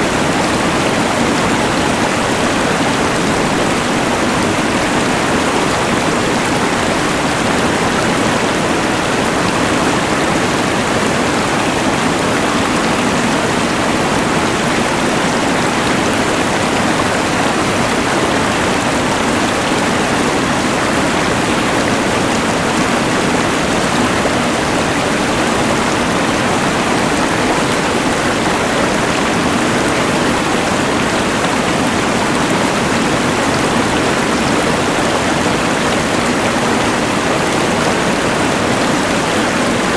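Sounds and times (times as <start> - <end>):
rushing river: 0.0 - 39.9.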